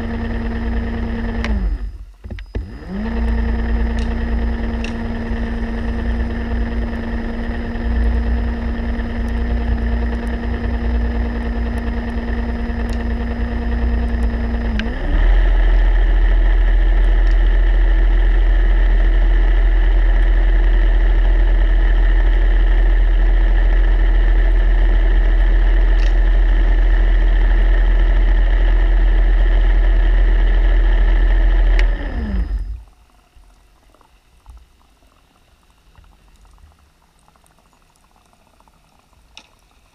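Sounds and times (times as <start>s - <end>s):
motor humming underwater: 0.0s - 39.9s.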